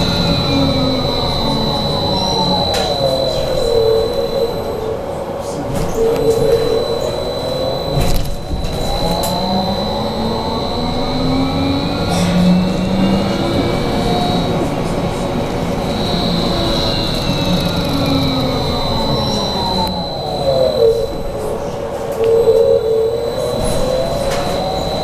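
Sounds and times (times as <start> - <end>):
electric traction drive whine: 0.0 - 25.0
steady high tone: 0.0 - 25.0.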